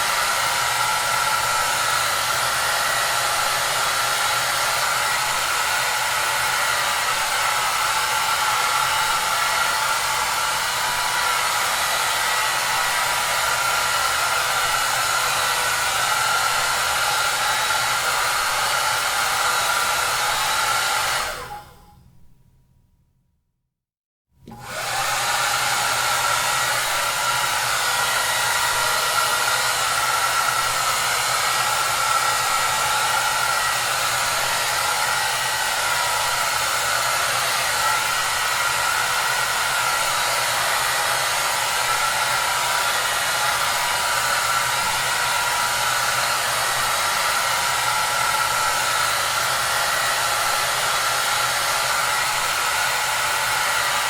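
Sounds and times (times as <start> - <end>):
hair dryer running: 0.0 - 21.9, 24.4 - 54.0.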